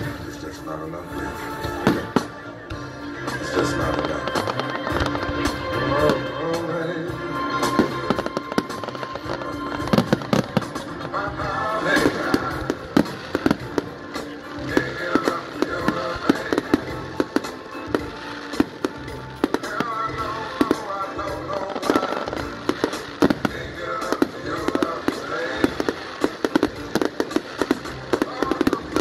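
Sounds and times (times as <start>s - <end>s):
fireworks bangs and crackles: 0.0s - 29.0s
music or voices: 0.0s - 29.0s.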